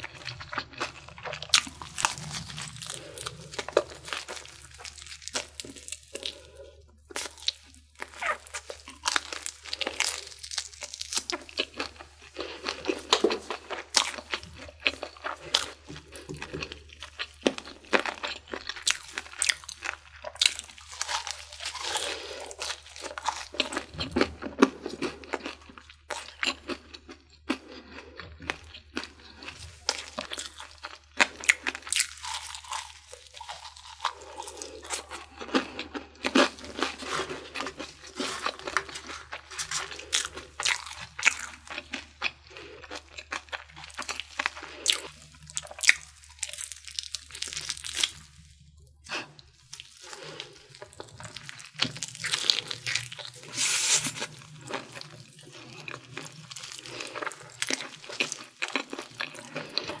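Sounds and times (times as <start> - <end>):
crunching fried chicken: 0.0 - 60.0.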